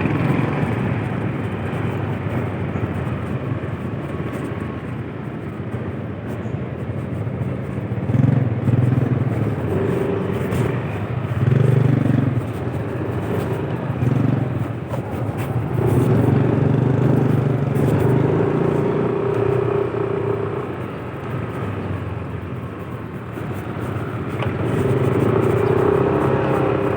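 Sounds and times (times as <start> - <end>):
road noise: 0.0 - 26.9
vehicle engine humming: 0.0 - 26.9.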